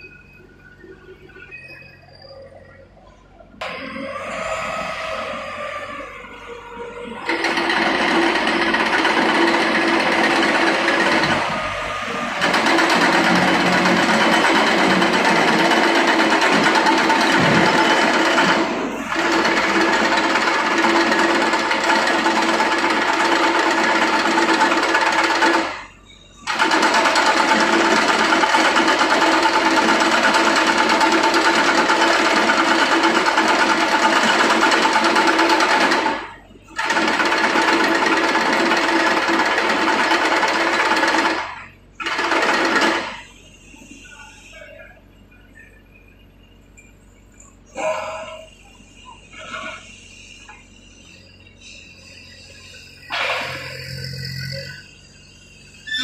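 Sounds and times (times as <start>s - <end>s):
diesel engine clattering: 6.6s - 56.0s.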